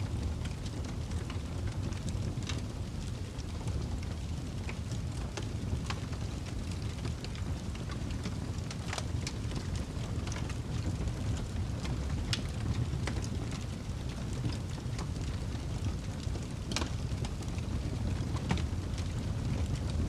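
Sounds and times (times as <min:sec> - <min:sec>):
fire rumbling: 0:00.0 - 0:20.0
logs crackling and popping: 0:00.0 - 0:20.0.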